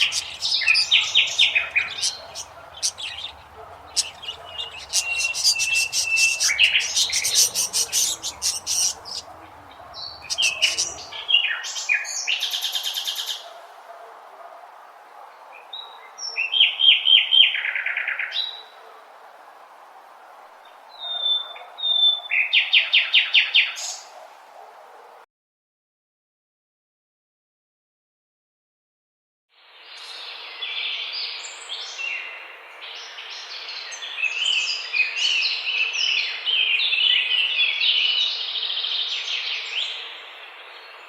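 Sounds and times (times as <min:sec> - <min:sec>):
birds chirping and trilling: 0:00.0 - 0:25.2, 0:30.0 - 0:41.0.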